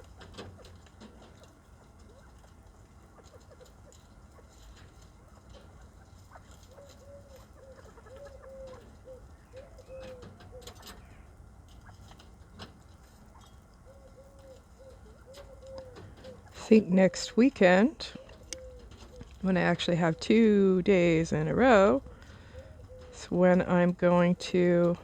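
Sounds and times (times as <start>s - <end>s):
birds clucking softly: 0.0s - 25.0s.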